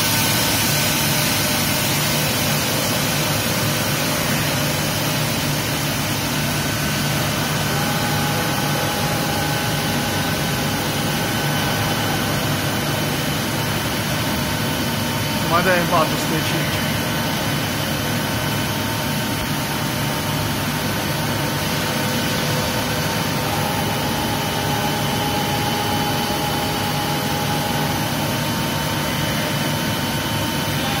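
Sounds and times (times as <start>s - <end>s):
milling machine hum and whine: 0.0s - 31.0s.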